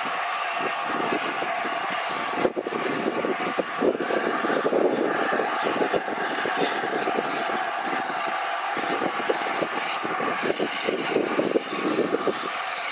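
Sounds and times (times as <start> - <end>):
steam hissing: 0.0 - 12.9.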